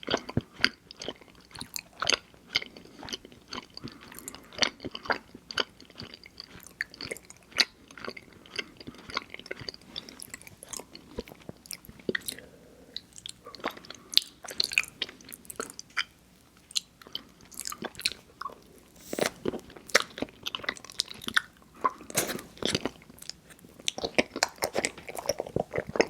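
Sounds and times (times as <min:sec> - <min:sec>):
person chewing wetly: 0:00.0 - 0:12.4, 0:13.0 - 0:26.0.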